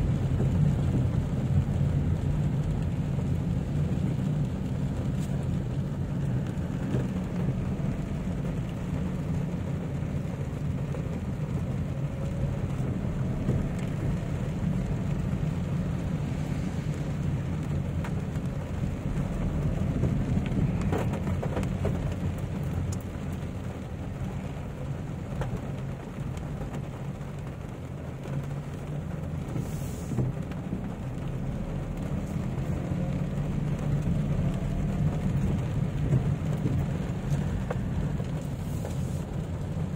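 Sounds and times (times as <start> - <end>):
car engine and road rumble: 0.0 - 39.9
rain pattering on car roof: 0.0 - 39.9.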